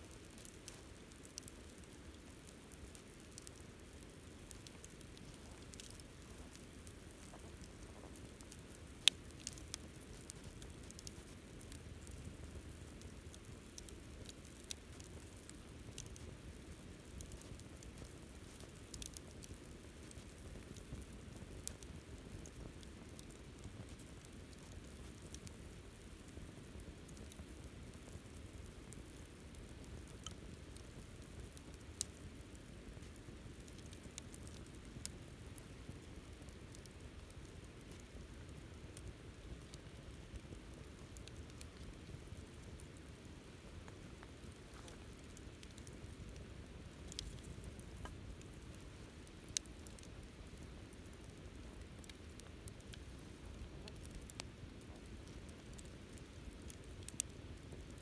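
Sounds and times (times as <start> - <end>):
fire crackling and popping: 0.0 - 58.0
campfire flame rushing: 0.2 - 58.0.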